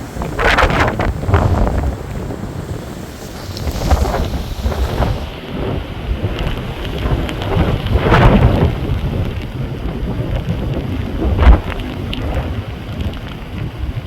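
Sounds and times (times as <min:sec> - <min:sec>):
rain falling: 0:00.0 - 0:14.0
wind buffeting microphone: 0:00.0 - 0:14.0.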